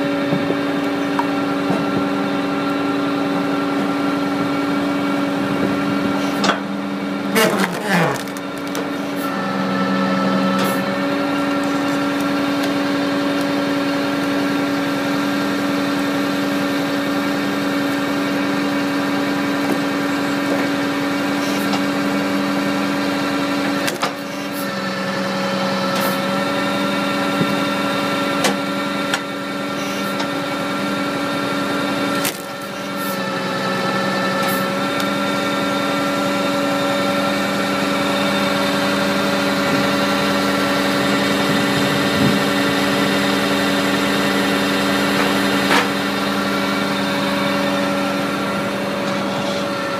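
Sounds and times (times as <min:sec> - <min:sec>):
engine and hydraulic drone: 0:00.0 - 0:49.9.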